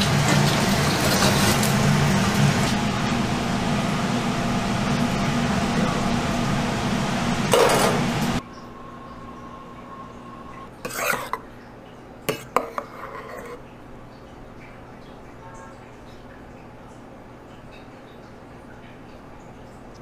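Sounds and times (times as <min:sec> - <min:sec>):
busy kitchen roar: 0:00.0 - 0:20.0.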